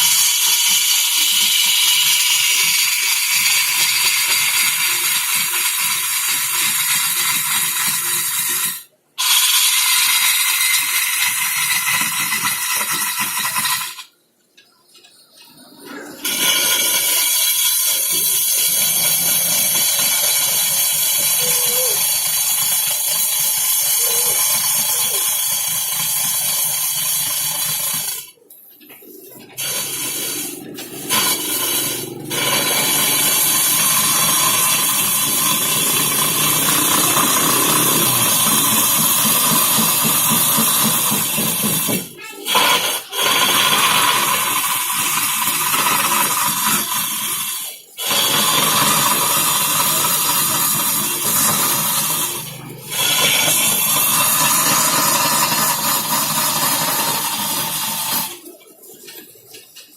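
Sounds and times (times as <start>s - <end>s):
loud machine hiss: 0.0s - 14.1s, 16.2s - 28.3s, 29.6s - 58.6s.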